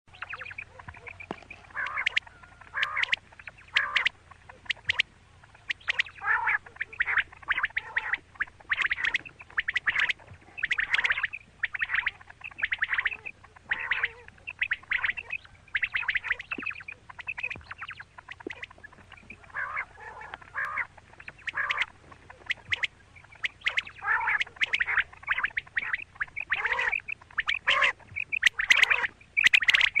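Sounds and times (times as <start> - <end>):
quail calling: 0.1 - 30.0.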